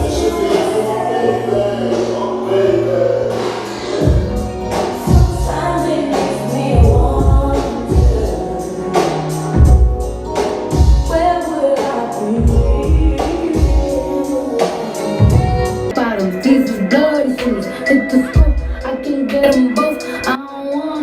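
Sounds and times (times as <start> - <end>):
music with singing and heavy beat: 0.0 - 21.0.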